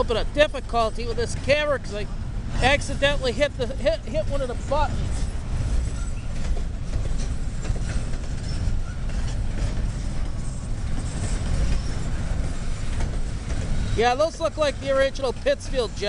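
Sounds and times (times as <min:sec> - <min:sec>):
train cars rumbling past: 0:00.0 - 0:16.0
wheels clicking over rail joints: 0:02.6 - 0:16.0.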